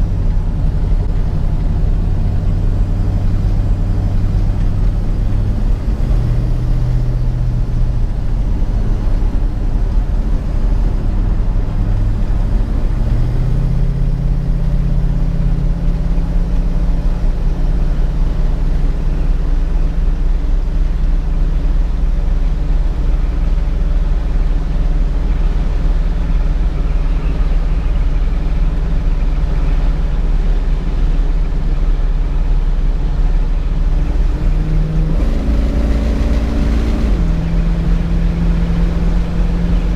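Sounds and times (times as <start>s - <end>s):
car engine rumbling: 0.0s - 39.9s.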